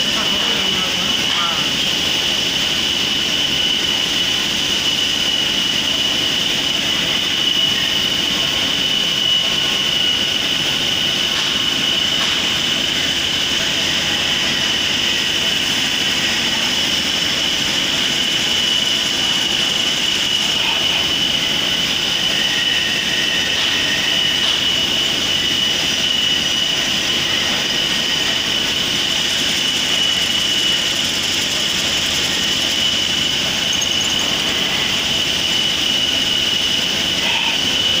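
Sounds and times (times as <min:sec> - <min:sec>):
lathe machining with high whine: 0:00.0 - 0:38.0.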